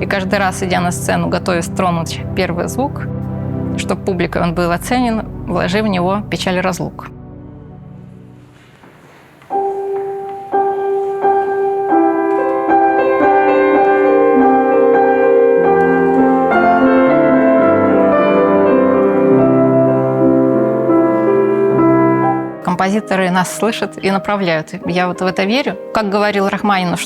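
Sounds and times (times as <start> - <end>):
solo piano playing: 0.0 - 27.0.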